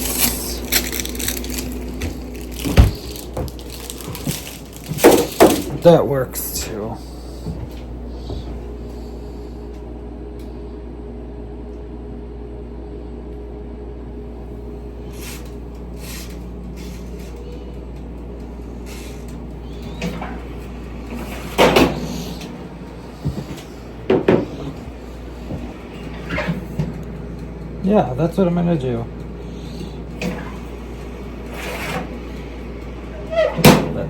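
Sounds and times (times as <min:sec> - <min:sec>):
kitchen appliance humming: 0:00.0 - 0:11.7, 0:12.5 - 0:34.0.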